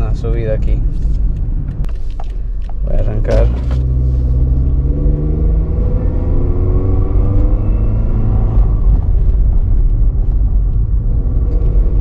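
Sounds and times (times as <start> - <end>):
car engine accelerating: 1.7 - 12.0.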